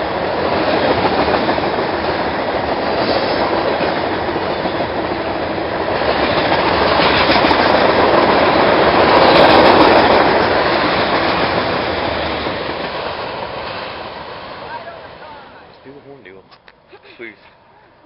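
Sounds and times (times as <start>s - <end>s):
train wheels clattering on rails: 0.0s - 16.6s.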